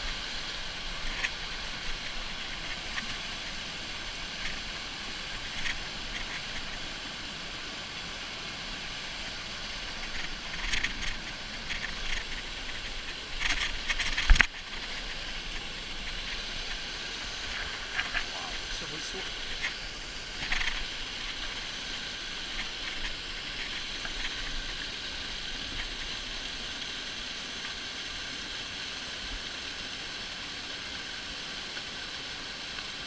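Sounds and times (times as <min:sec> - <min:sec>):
rustling and scraping vegetation: 0:00.0 - 0:28.6
small waterfall rushing: 0:00.0 - 0:33.0.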